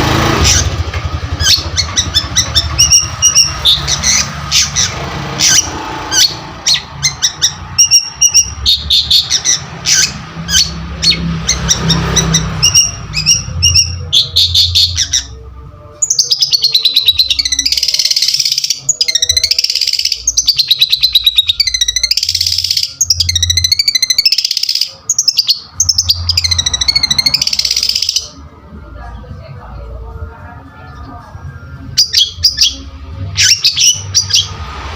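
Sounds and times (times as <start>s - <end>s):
bird singing chattering notes: 0.1s - 15.4s, 16.0s - 28.4s, 31.9s - 34.6s.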